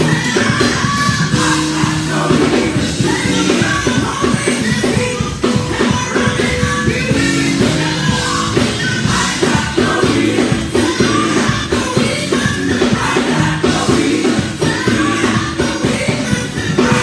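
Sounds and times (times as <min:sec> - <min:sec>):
band with drums: 0:00.0 - 0:17.0
women singing gospel together: 0:00.0 - 0:17.0.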